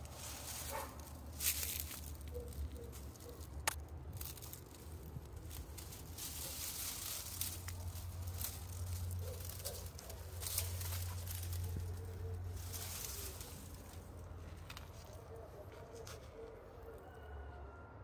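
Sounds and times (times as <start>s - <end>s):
low steady rumble: 0.0s - 15.5s
twigs snapping: 0.0s - 16.6s
footsteps on dry leaves: 0.0s - 16.9s.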